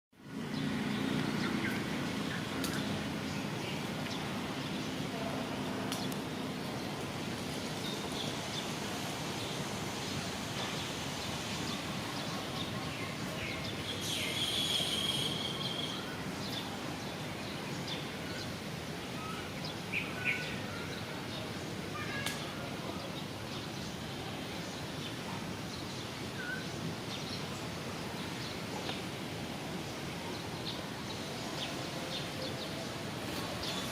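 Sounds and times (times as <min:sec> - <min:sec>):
wind rustling hiss: 0:00.2 - 0:33.9.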